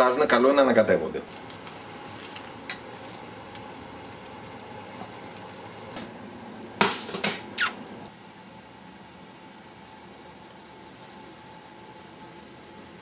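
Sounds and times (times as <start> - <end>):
boiling water hiss: 1.0 - 13.0.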